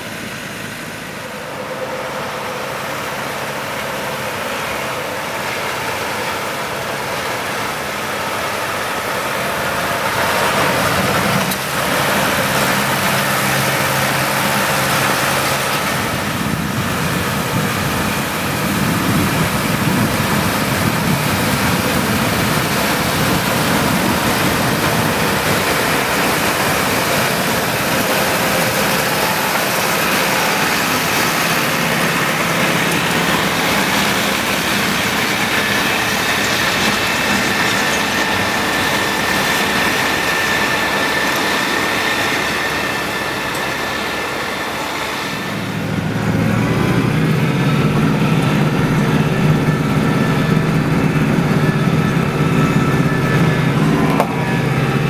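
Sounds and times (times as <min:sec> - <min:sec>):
tractor engine: 0:00.0 - 0:55.0.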